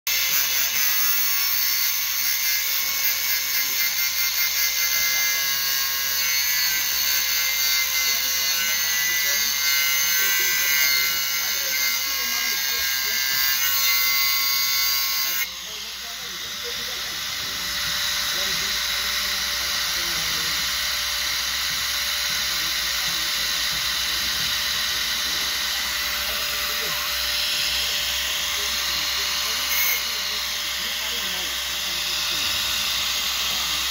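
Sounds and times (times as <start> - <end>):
angle grinder cutting steel: 0.1 - 33.9.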